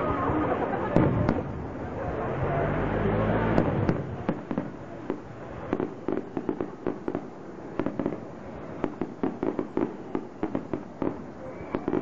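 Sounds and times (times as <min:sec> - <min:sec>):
fireworks popping and crackling: 0:00.0 - 0:02.4, 0:03.4 - 0:12.0.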